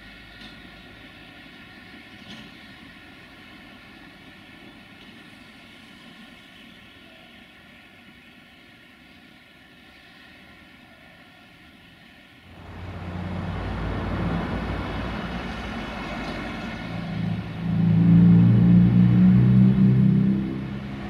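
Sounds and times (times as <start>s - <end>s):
diesel locomotive engine drone: 0.0s - 21.0s
distant train rumble: 0.0s - 21.0s.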